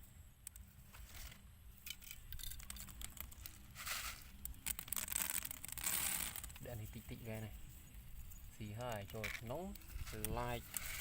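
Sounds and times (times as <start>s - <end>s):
rustling handling noise: 0.8s - 11.0s.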